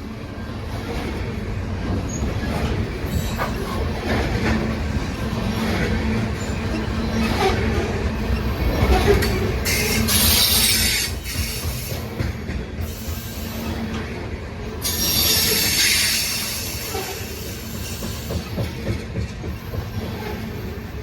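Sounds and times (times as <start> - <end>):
steel wheels rumbling on rail: 0.0 - 21.0
train cars clicking and clanking: 0.0 - 21.0.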